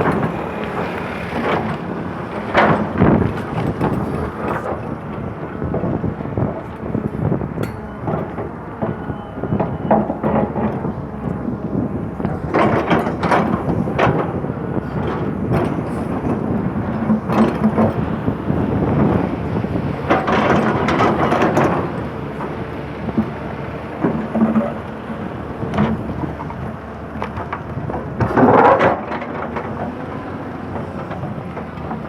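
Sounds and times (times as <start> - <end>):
excavator diesel engine drone: 0.0 - 32.0.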